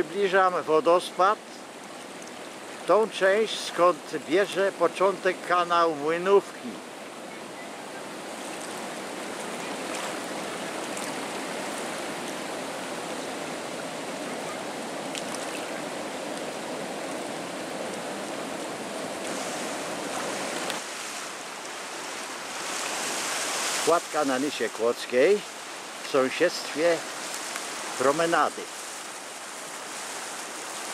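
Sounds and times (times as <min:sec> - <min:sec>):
white-water rushing over a weir: 0:00.0 - 0:30.9.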